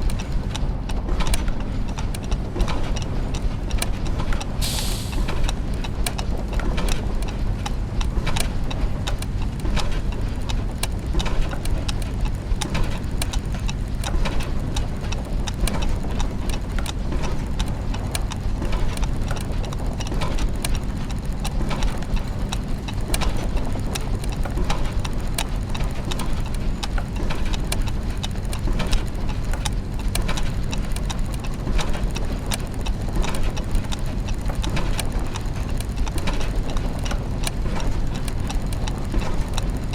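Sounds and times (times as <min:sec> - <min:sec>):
clockwork gears ticking: 0:00.0 - 0:39.9
low machine hum: 0:00.0 - 0:39.9.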